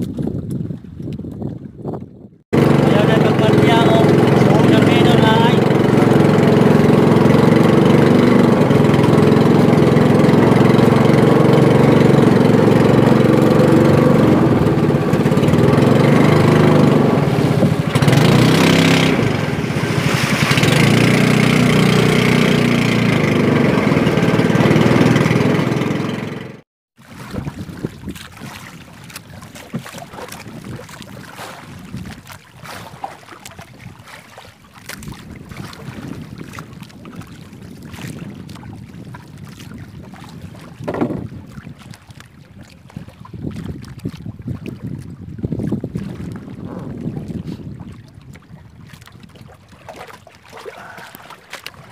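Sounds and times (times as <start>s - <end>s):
wind on microphone: 0.0s - 25.6s, 27.0s - 51.9s
water against hull: 0.0s - 51.9s
small boat engine running: 2.2s - 51.9s.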